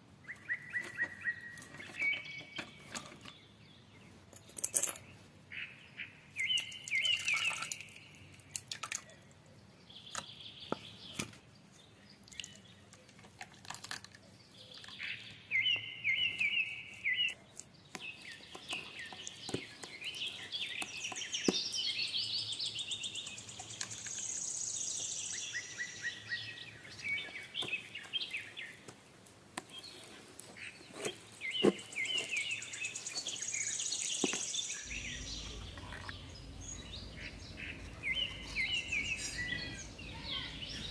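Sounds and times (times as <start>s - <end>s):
birds chirping and trilling: 0.0s - 28.9s, 29.6s - 40.9s.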